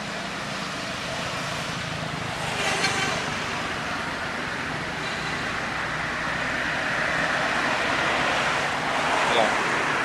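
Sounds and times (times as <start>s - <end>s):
passing vehicle rush: 0.0s - 10.0s.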